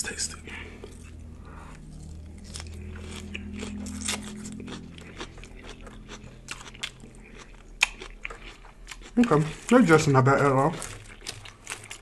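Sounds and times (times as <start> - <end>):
chewing crunchy lettuce: 0.7 - 12.0.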